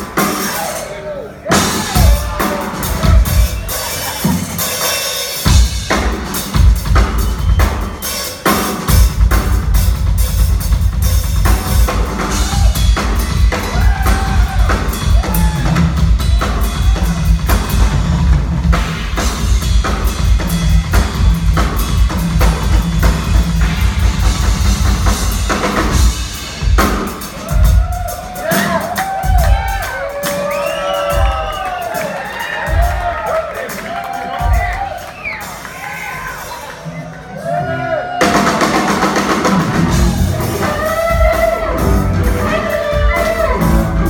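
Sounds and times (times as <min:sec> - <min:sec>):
jazz-rock band playing live: 0:00.0 - 0:36.9, 0:38.1 - 0:44.0
drum kit: 0:00.0 - 0:44.0.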